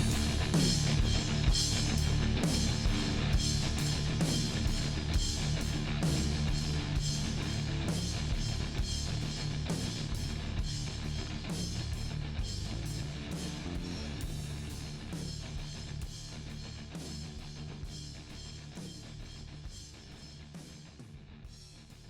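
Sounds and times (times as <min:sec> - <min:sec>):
rock music with drums and guitar: 0:00.0 - 0:22.0.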